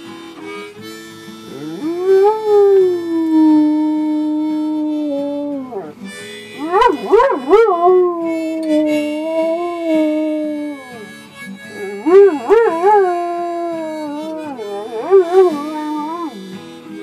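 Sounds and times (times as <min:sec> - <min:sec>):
acoustic guitar: 0:00.0 - 0:17.0
harmonica: 0:00.0 - 0:17.0
dog howling: 0:01.5 - 0:06.0, 0:06.6 - 0:16.4.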